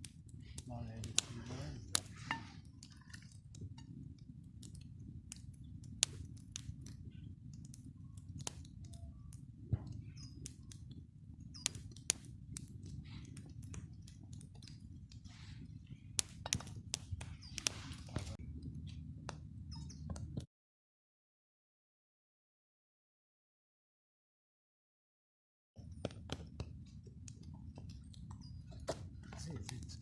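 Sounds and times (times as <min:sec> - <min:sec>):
campfire crackling: 0:00.0 - 0:20.5, 0:25.8 - 0:30.0
fire pops and snaps: 0:00.0 - 0:20.5, 0:25.8 - 0:30.0.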